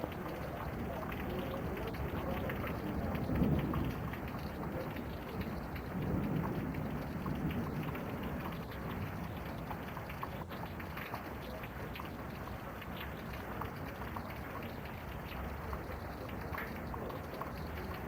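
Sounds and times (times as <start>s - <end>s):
rain pattering: 0.0s - 18.0s.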